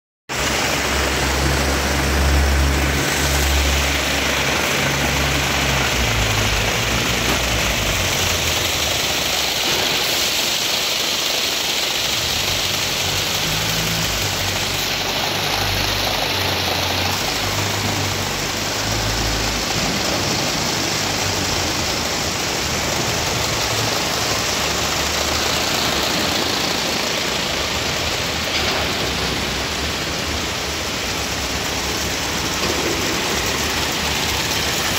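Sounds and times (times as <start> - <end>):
braiding machines running: 0.3 - 34.9.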